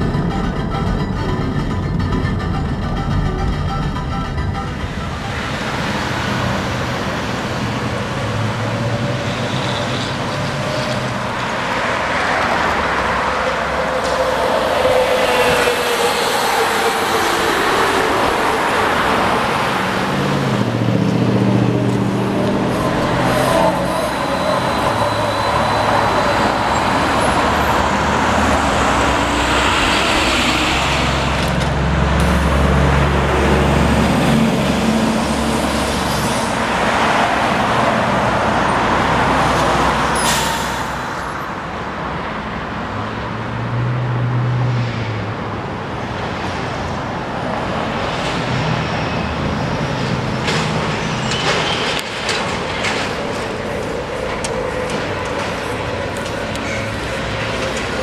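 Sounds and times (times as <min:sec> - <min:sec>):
steady traffic noise: 0:00.0 - 0:58.0
vehicles passing: 0:00.0 - 0:58.0.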